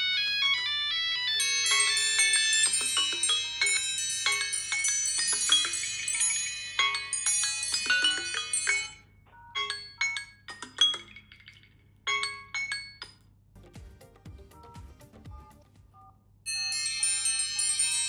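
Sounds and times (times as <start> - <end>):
smartphones ringing: 0.0 - 13.2, 16.5 - 18.0.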